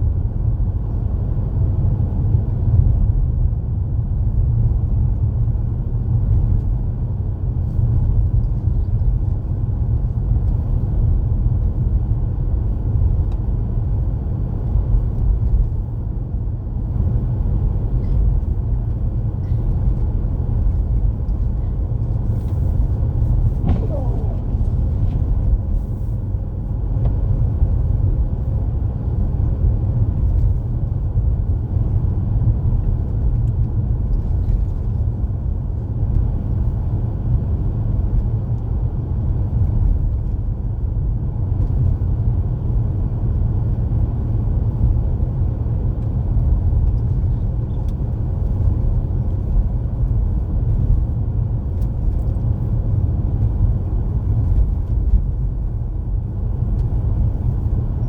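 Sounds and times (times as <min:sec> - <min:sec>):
car engine and tyre noise: 0:00.0 - 0:58.0.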